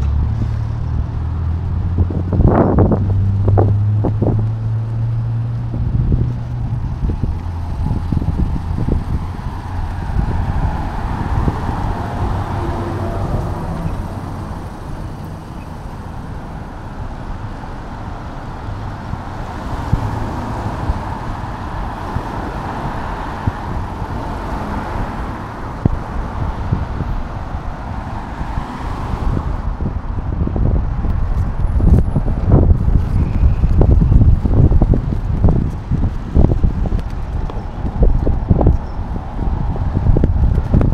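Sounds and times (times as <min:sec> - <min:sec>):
cars passing on wet street: 0:00.0 - 0:40.9
wind buffeting microphone: 0:00.0 - 0:40.9.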